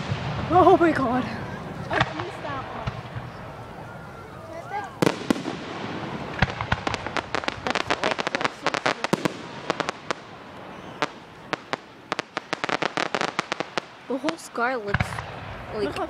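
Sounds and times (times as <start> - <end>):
firework boom: 0.0 - 13.9
fireworks crackling pops: 0.0 - 16.0.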